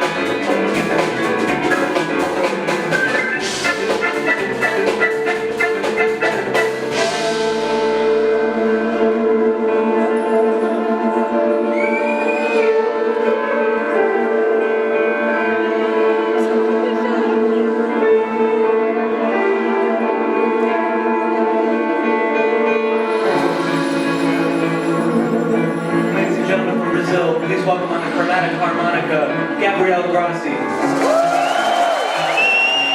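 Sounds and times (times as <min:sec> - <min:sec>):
sustained keyboard chords: 0:00.0 - 0:32.9.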